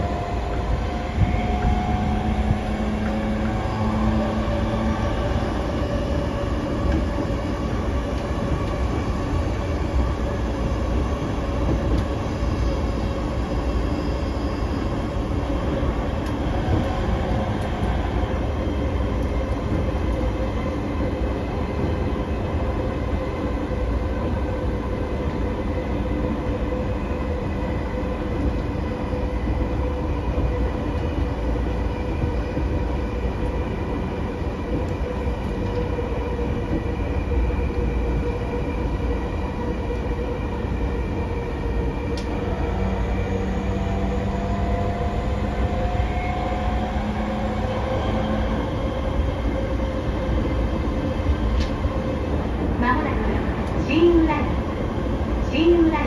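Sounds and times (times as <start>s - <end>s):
train wheels rumbling on rails: 0.0s - 56.0s
train whine: 0.0s - 56.0s.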